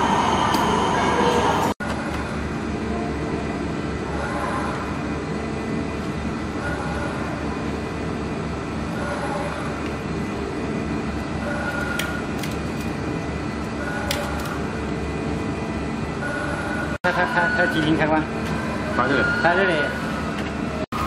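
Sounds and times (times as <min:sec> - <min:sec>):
machine rumble and hum: 0:00.0 - 0:21.0.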